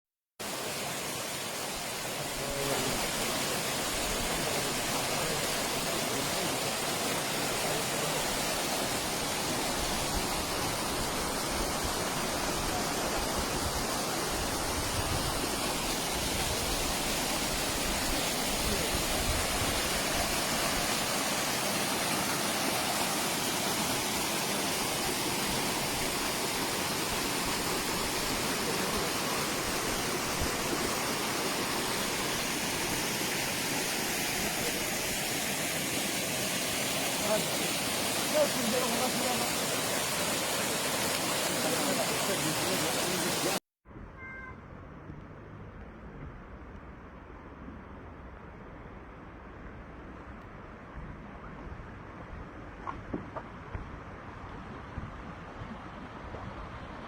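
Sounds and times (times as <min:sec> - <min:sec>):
running water rushing: 0:00.4 - 0:43.6, 0:51.8 - 0:57.0.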